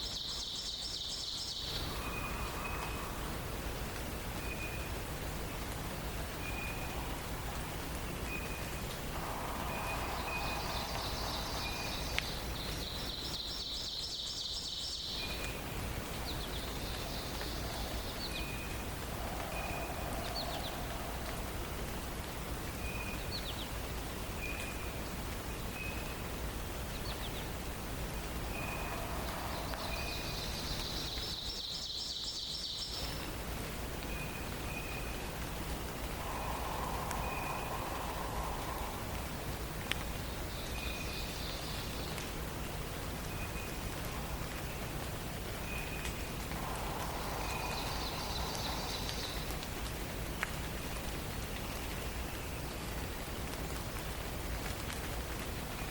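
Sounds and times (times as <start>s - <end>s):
background hiss: 0.0s - 55.9s.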